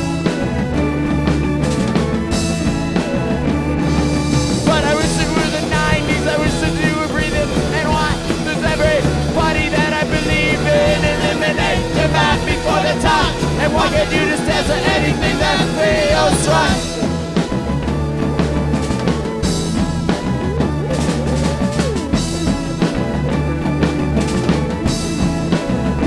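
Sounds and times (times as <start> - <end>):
rock band playing: 0.0 - 26.0
wavering lead melody: 0.0 - 26.0.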